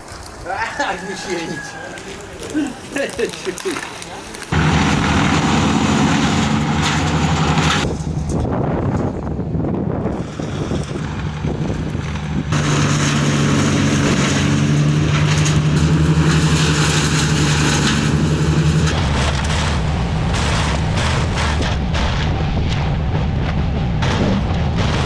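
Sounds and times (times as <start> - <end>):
machine engine humming and rushing: 4.5 - 25.0.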